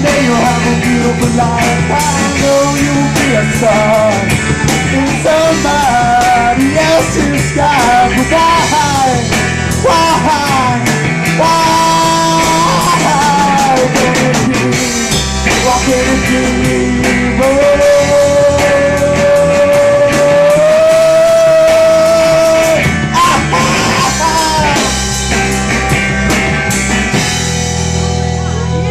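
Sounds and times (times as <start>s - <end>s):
rock band with guitars: 0.0s - 28.9s.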